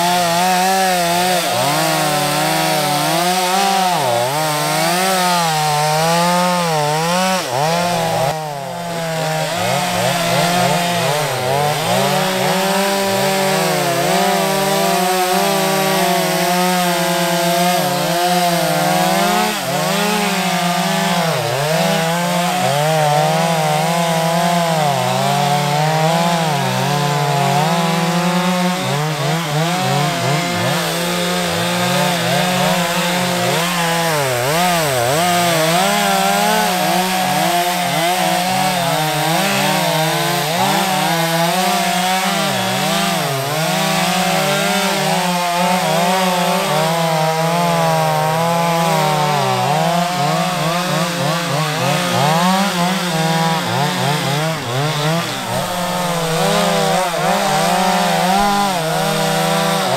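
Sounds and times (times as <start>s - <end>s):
chainsaws cutting a log: 0.0s - 59.9s.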